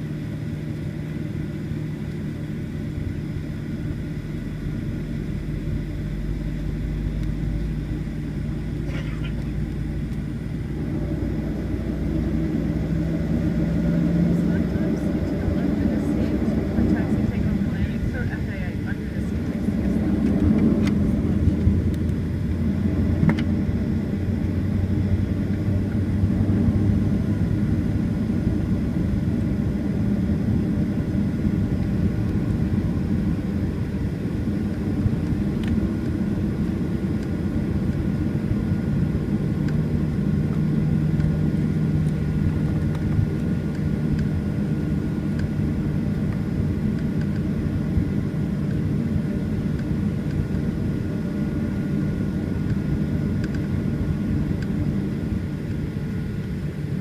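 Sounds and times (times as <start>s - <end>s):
aircraft engine rumble: 0.0s - 57.0s
low hum: 0.0s - 57.0s.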